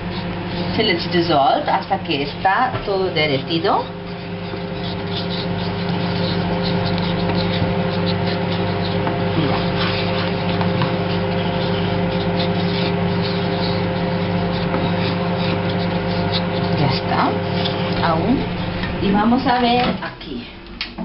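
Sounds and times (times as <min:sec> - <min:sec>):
spoon scraping a pan: 0:00.0 - 0:18.8
microwave oven humming: 0:00.0 - 0:21.0.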